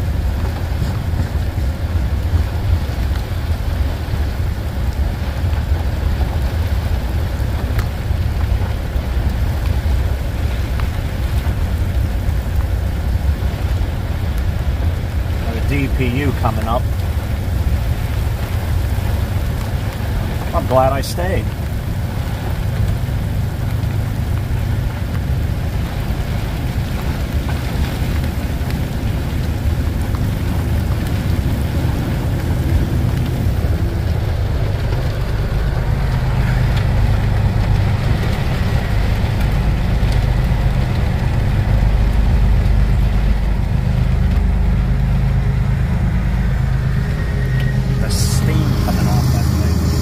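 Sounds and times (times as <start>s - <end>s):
diesel locomotive rumble: 0.0s - 50.0s
freight train rumbling past: 0.0s - 50.0s
heavy rain: 0.0s - 50.0s.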